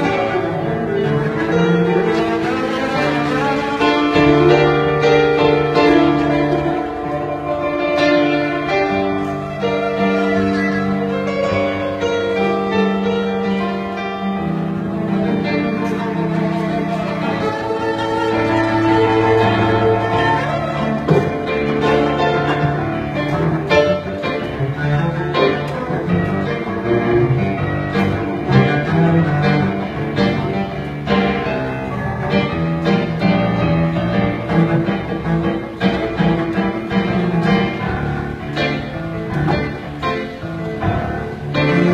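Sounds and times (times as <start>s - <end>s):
cello bowed long notes: 0.0s - 41.9s.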